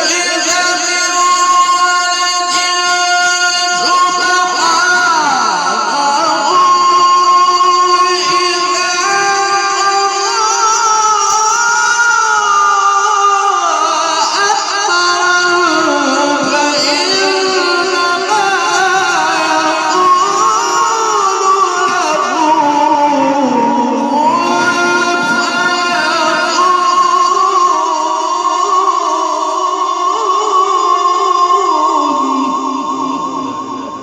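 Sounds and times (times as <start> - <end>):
man reciting melodically: 0.0 - 34.0.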